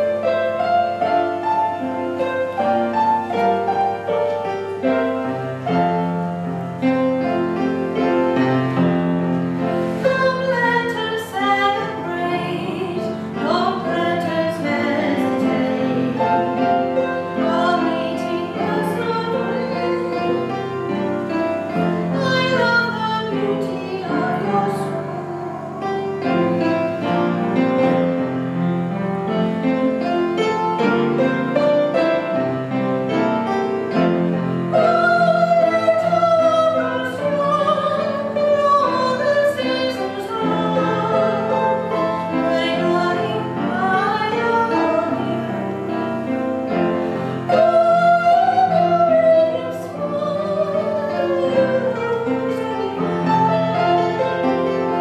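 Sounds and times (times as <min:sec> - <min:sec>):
cello and instruments: 0:00.0 - 0:55.0
woman singing classical melody: 0:00.0 - 0:55.0.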